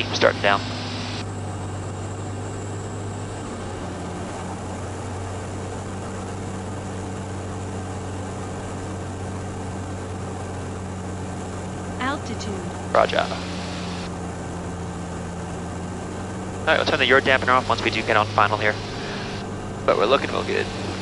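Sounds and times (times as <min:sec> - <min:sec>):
airplane engine droning: 0:00.0 - 0:21.0.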